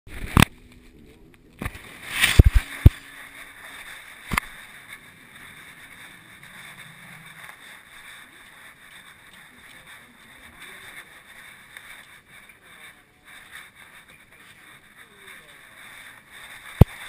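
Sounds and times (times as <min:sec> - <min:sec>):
low steady hiss: 0:00.1 - 0:17.0.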